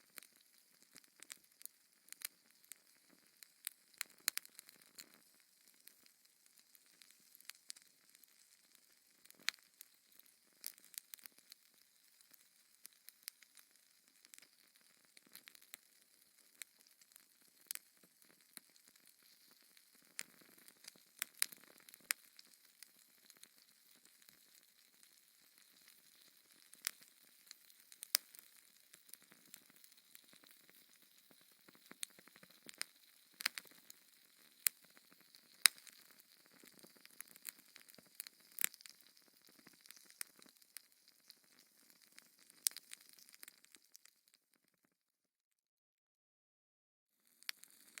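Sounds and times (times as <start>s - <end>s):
faint steady hiss: 0.0s - 44.2s
fire crackling and popping: 0.0s - 44.8s, 47.2s - 48.0s.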